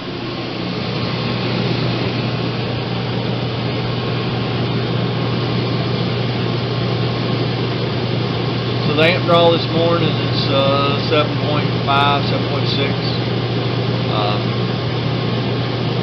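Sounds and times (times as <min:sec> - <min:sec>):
air conditioner running: 0:00.0 - 0:16.0.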